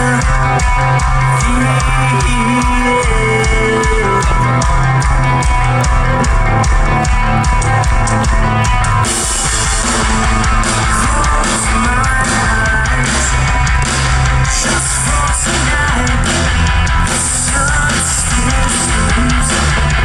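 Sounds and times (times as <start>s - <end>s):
distorted electric guitars: 0.0s - 20.0s
drums: 0.0s - 20.0s.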